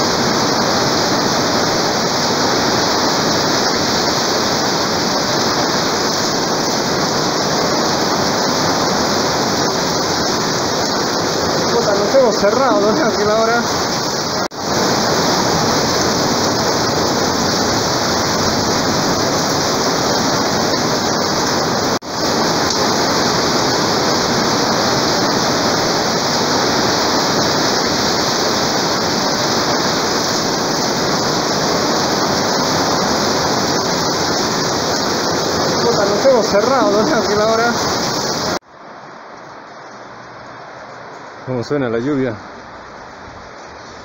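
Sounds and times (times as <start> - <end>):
torrential rain: 0.0 - 44.0.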